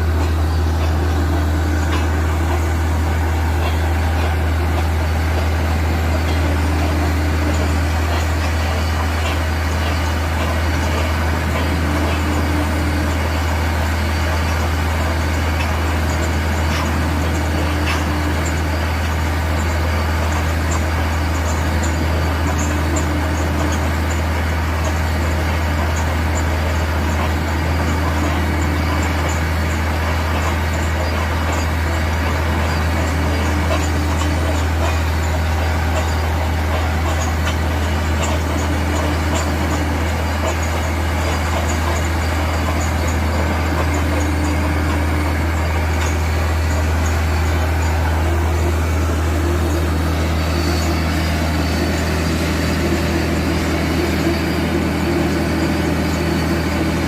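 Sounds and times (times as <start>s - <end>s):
drilling machinery and air compressor: 0.0s - 57.0s.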